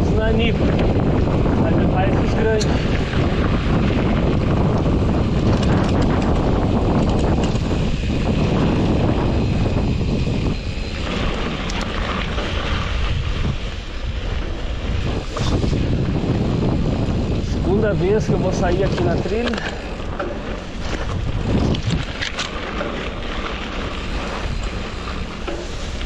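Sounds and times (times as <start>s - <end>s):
bike rattles and clicks: 0.0s - 26.0s
wind on microphone: 0.0s - 26.0s.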